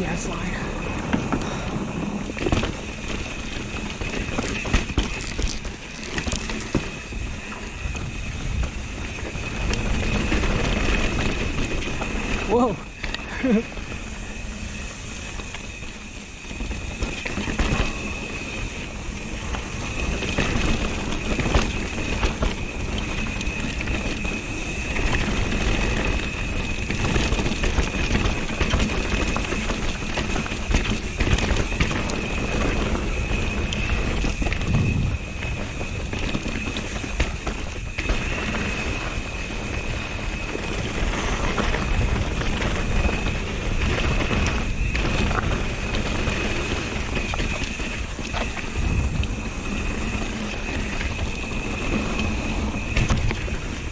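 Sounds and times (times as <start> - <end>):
bike rattling over bumps: 0.0 - 53.9
bike tyres rolling over dirt: 0.0 - 53.9
high-pitched whine: 0.0 - 53.9
wind on microphone: 0.0 - 53.9.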